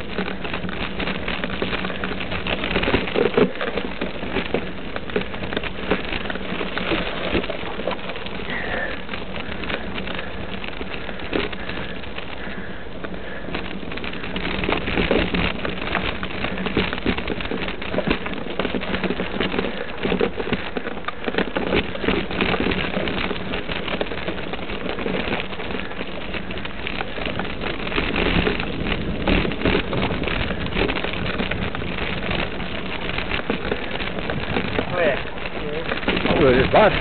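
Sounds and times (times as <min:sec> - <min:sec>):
bike tyres crunching over gravel: 0:00.0 - 0:37.0
rattle and rubbing on microphone: 0:00.0 - 0:37.0.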